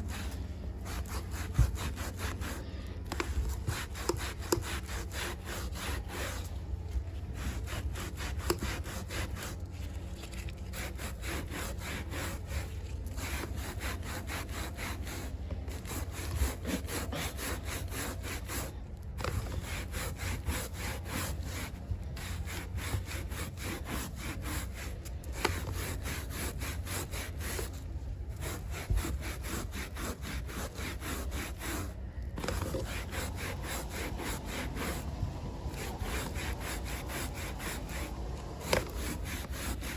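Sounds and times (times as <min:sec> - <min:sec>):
carpet being scrubbed by hand: 0:00.0 - 0:39.9
steady low hum: 0:00.0 - 0:39.9.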